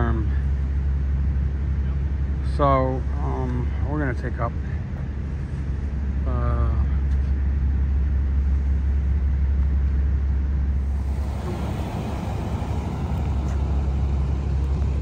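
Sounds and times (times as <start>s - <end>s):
idling vehicle engines rumble: 0.0s - 15.0s
street noise hiss: 0.0s - 15.0s.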